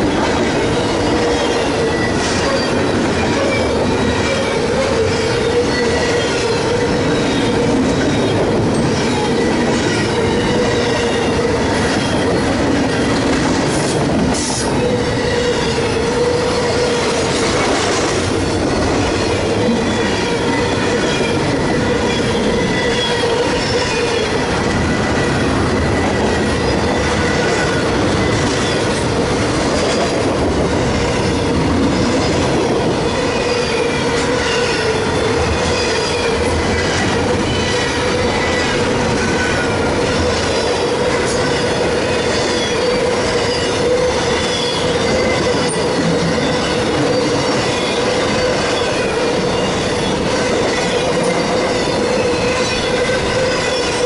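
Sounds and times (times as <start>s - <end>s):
train wheels squealing on rails: 0.0s - 54.0s.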